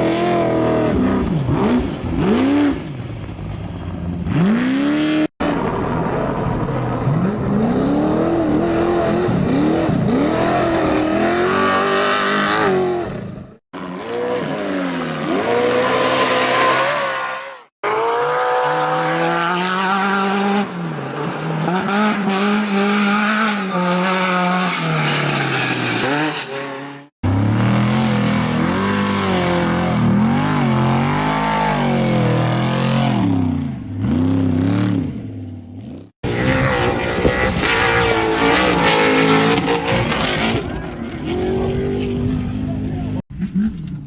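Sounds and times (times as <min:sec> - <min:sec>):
race truck engines revving: 0:00.0 - 0:44.0.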